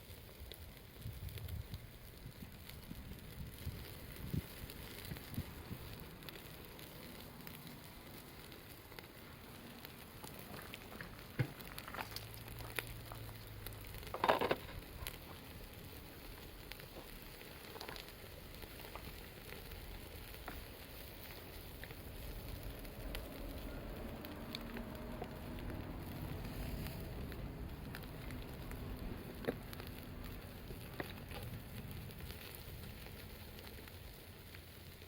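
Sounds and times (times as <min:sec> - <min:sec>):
wood campfire crackling: 0:00.0 - 0:35.0.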